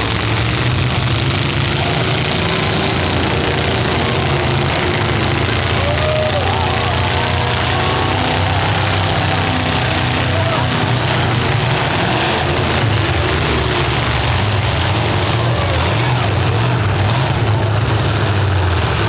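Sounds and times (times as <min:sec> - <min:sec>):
car engines running: 0:00.0 - 0:19.0.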